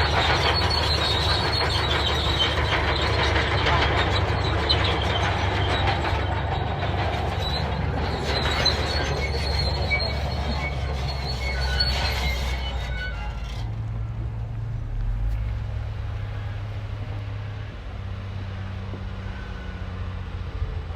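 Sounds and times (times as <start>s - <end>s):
steel tracks squealing and clanking: 0.0s - 14.2s, 14.8s - 20.9s
diesel engine running: 0.0s - 20.9s.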